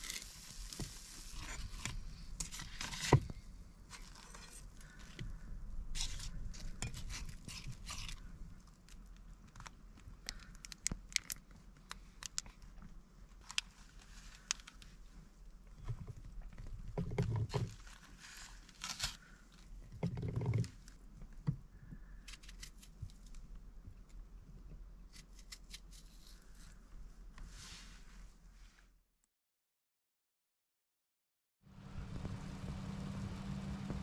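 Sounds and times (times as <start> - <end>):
clicks and crinkling of handling: 0.0 - 27.5.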